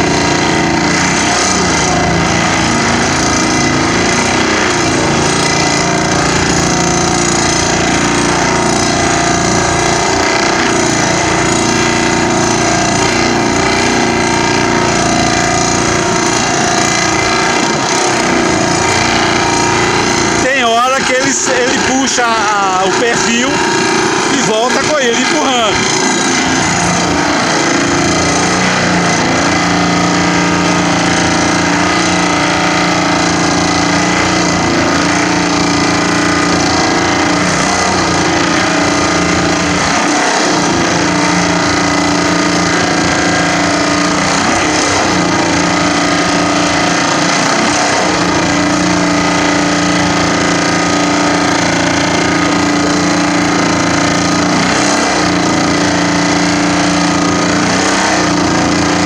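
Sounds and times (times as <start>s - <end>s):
vibratory pile hammer drone: 0.0s - 59.0s.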